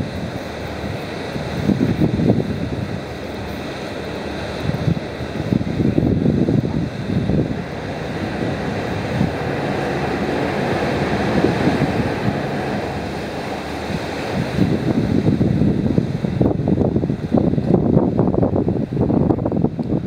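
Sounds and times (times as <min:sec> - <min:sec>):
steady rushing noise: 0:00.0 - 0:20.0
wind buffeting microphone: 0:00.0 - 0:20.0.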